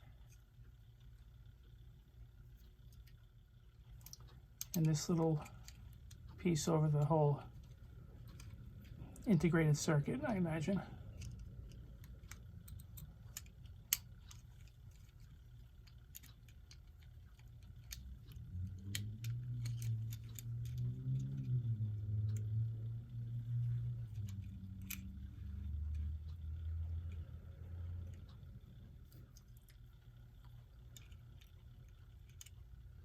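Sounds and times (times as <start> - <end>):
low wavering hum: 0.0 - 33.0
plastic clock parts clicking: 2.6 - 33.0.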